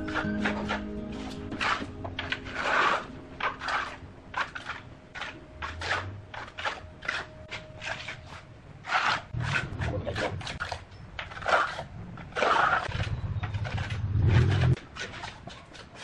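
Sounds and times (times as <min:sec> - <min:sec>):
trowel scraping wet mortar: 0:00.0 - 0:16.0.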